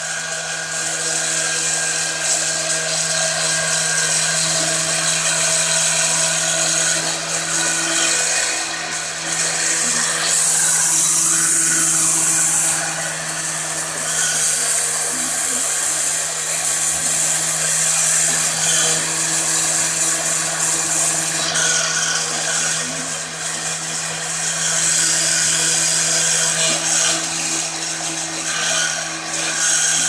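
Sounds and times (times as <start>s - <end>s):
power tool cutting: 0.0s - 30.0s.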